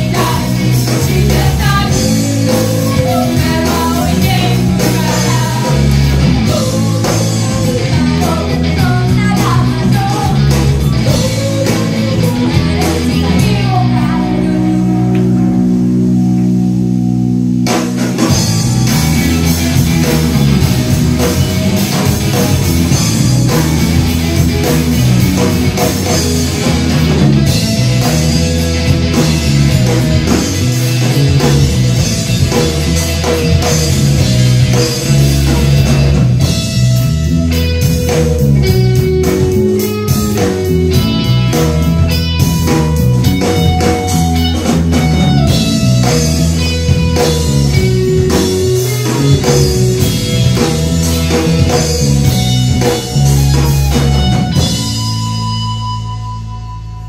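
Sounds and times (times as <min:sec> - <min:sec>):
held electric guitar notes: 0:00.0 - 0:57.0
live rock band playing: 0:00.0 - 0:57.0.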